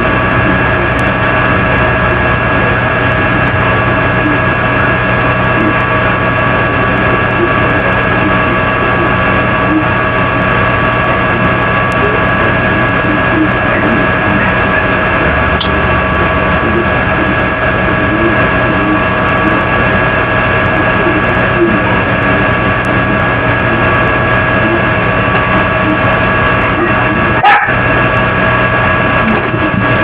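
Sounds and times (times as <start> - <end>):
loud hum and hiss: 0.0 - 30.0.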